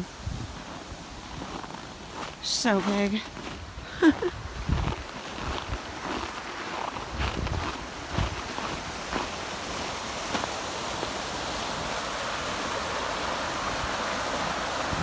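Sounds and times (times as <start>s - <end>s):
waterfall and rushing stream: 0.0s - 15.0s.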